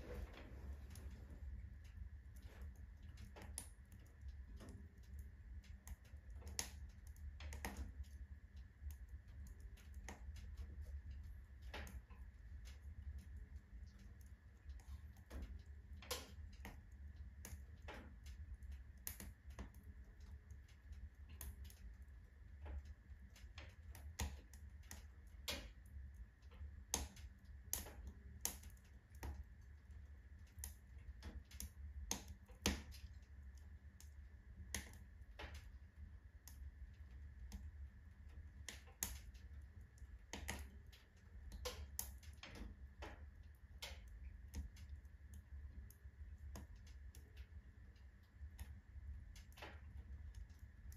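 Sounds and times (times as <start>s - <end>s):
low steady rumble: 0.0s - 50.9s
wood fire crackling and popping: 0.0s - 50.9s.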